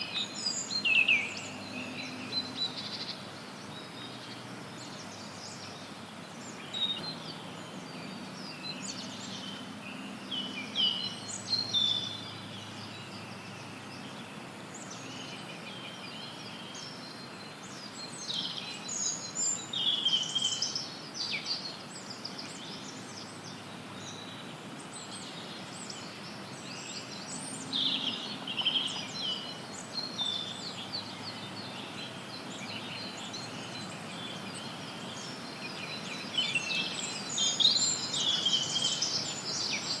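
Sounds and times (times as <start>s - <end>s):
songbirds chirping and trilling: 0.0s - 40.0s
white noise hiss: 0.0s - 40.0s.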